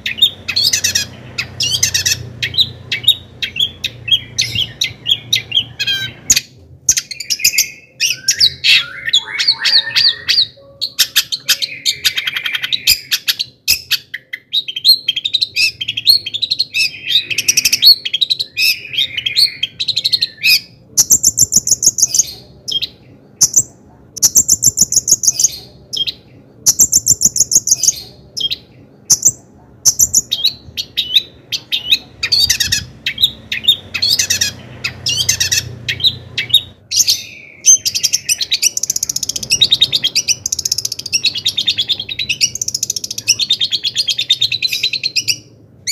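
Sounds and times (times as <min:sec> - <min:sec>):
bird singing chattering trills: 0:00.0 - 0:45.9.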